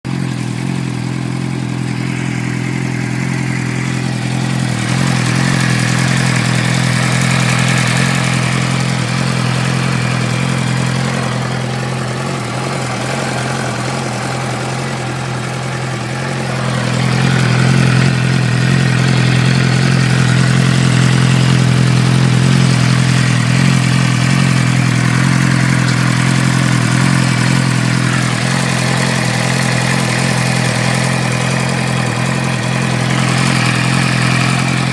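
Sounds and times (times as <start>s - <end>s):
engine ticking: 0.0s - 34.9s
motorcycle engine idling: 0.0s - 34.9s.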